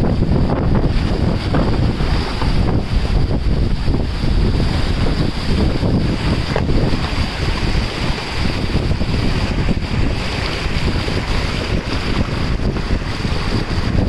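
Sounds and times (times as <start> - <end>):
floodwater rushing: 0.0 - 14.0
wind buffeting microphone: 0.0 - 14.0.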